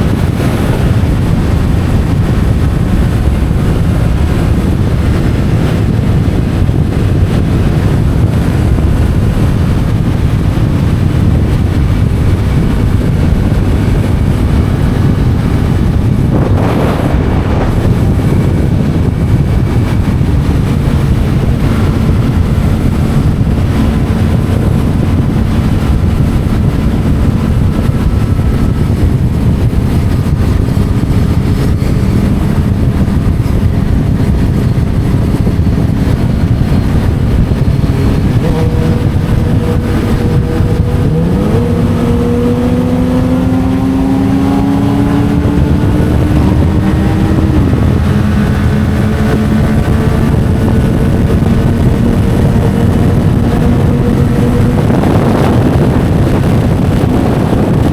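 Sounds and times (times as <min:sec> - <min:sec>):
motorcycle engine running: 0:00.0 - 0:57.9
wind noise on microphone: 0:00.0 - 0:57.9.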